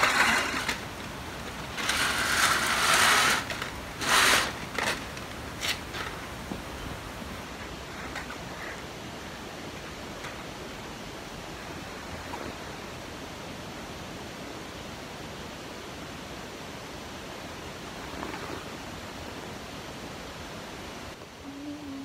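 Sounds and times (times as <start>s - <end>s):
steady rushing hiss: 0.0s - 22.0s.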